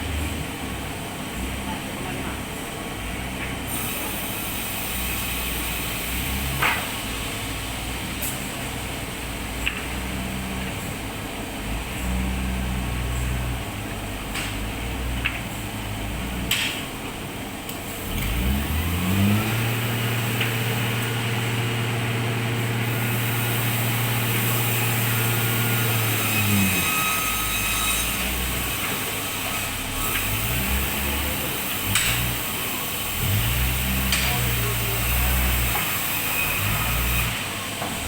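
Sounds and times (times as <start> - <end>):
sawmill motor humming: 0.0 - 38.0.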